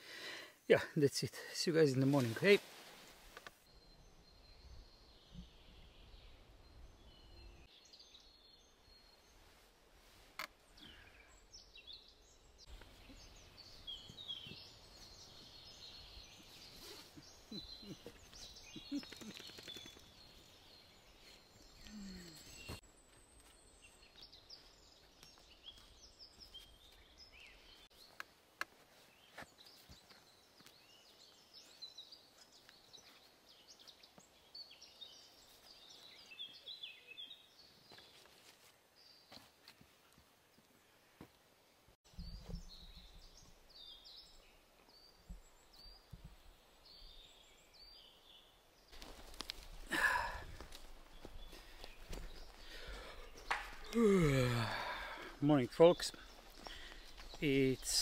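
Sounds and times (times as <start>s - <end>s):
small birds chirping and trilling: 3.6s - 28.3s, 28.9s - 38.4s, 42.1s - 58.0s.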